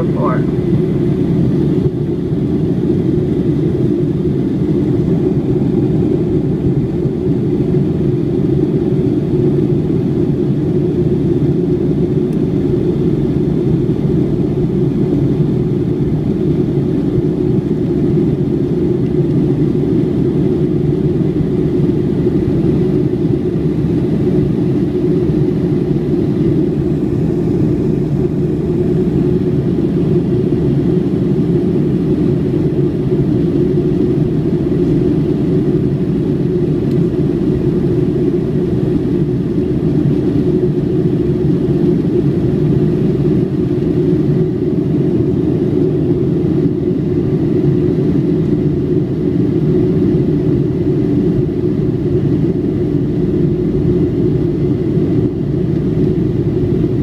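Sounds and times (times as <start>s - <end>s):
airplane cabin engine drone: 0.0s - 57.0s.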